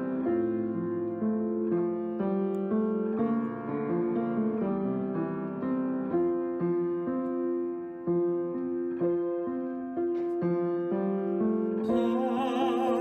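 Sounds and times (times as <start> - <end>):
slow solo piano melody: 0.0 - 13.0.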